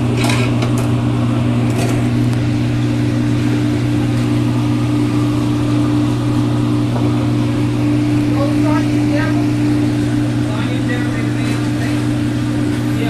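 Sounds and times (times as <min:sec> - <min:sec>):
kitchen equipment humming: 0:00.0 - 0:13.0.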